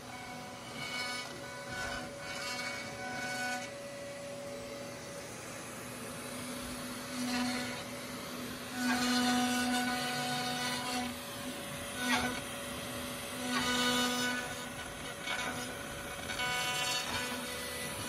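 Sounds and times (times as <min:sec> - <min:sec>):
router spindle whining: 0:00.0 - 0:18.0.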